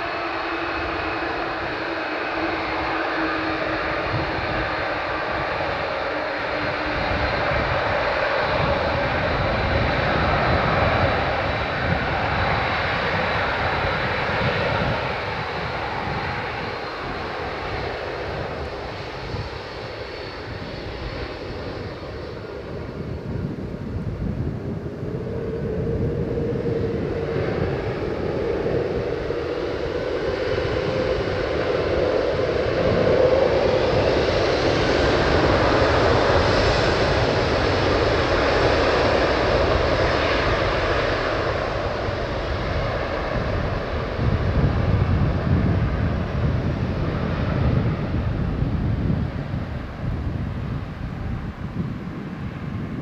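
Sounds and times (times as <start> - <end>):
jet engines rushing: 0.0 - 53.0.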